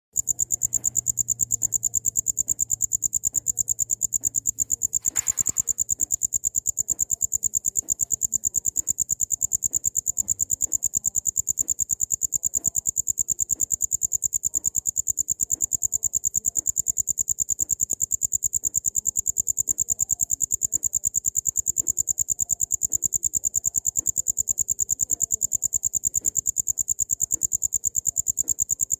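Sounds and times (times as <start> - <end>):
cricket chirping: 0.2 - 28.9.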